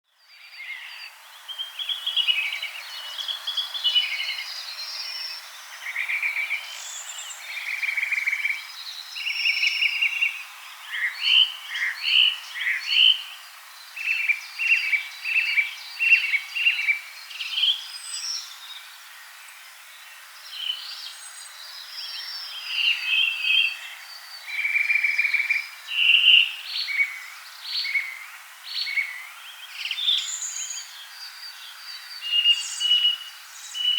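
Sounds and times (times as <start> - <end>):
songbirds chirping and trilling: 0.1 - 33.9
steady background hiss: 0.3 - 33.9.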